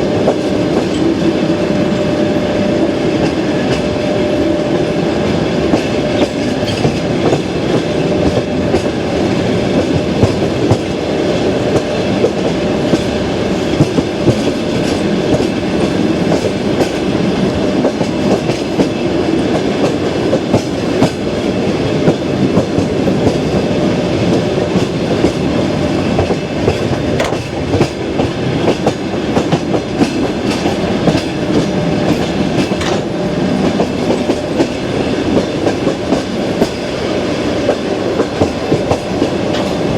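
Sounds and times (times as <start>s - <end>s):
train wheels clacking over rail joints: 5.3s - 39.9s.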